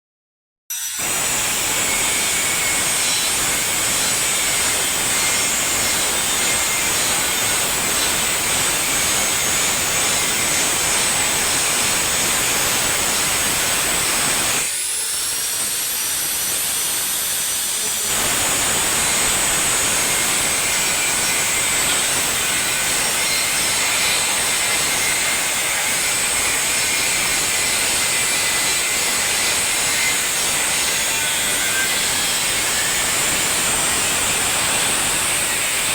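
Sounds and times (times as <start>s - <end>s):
electric arc welding hiss: 1.0s - 14.7s, 15.3s - 35.9s.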